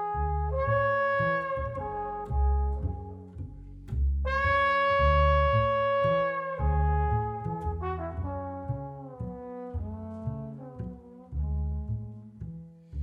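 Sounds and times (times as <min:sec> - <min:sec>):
alto saxophone: 0:00.0 - 0:03.6, 0:04.2 - 0:11.3
trombone: 0:00.0 - 0:03.6, 0:04.2 - 0:12.4
double bass line: 0:00.0 - 0:13.0.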